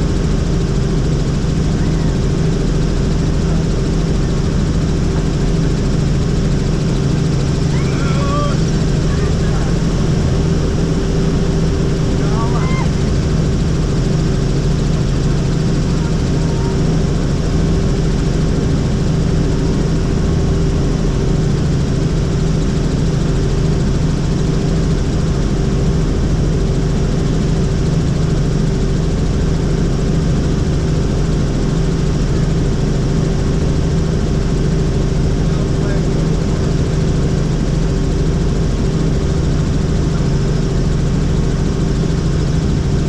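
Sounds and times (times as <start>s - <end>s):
helicopter rotor and engine drone: 0.0s - 43.0s.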